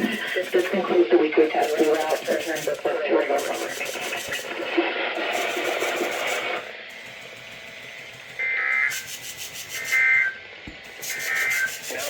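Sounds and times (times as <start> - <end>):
raspy two-tone data bursts: 0.0 - 12.0
rough radio hiss: 0.0 - 12.0.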